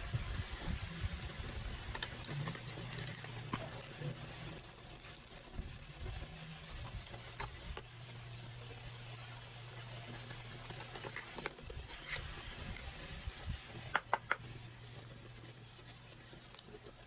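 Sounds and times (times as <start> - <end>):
handling noises scratching and rubbing: 0.0 - 17.0
steady low hum: 0.0 - 17.0.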